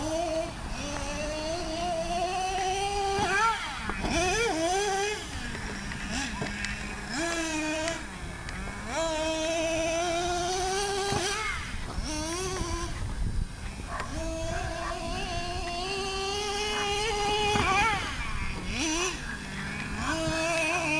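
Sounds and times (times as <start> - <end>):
small nitro engine revving: 0.0 - 20.9.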